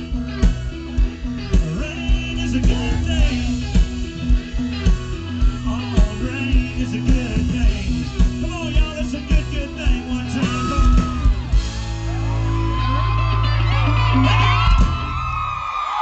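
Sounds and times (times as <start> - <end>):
drums beating: 0.0 - 15.7
crowd whooping and yelling: 0.0 - 16.0
live country band playing: 0.0 - 16.0.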